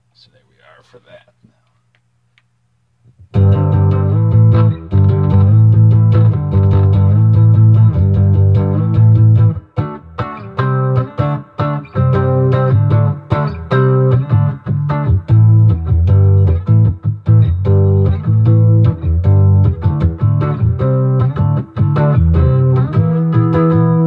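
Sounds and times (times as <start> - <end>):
electric guitar notes and chords: 3.2 - 24.0.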